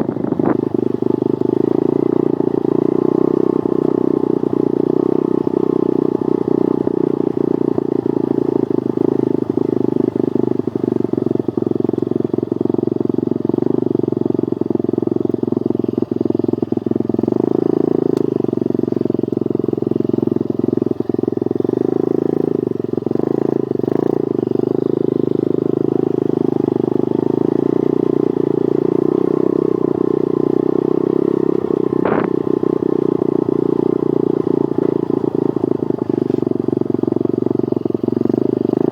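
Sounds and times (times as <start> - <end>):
small motorbike engine running: 0.0 - 38.9.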